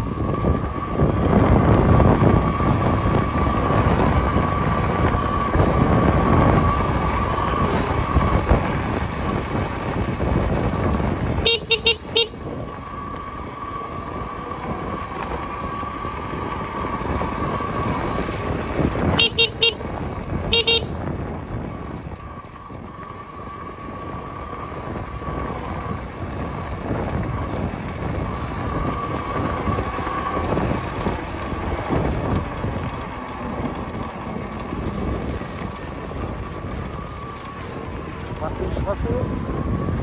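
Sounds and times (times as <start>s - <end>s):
wind: 0.0s - 40.0s.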